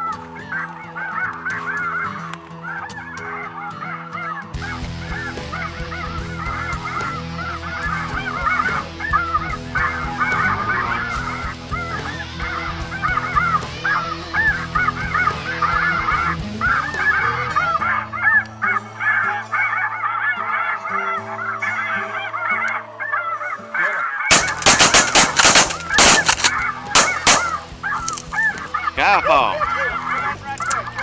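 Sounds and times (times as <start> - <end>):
geese honking: 0.0 - 31.0.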